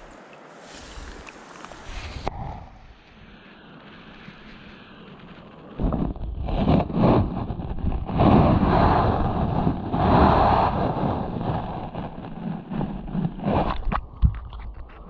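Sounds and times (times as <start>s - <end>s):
wind buffeting microphone: 0.8s - 15.0s.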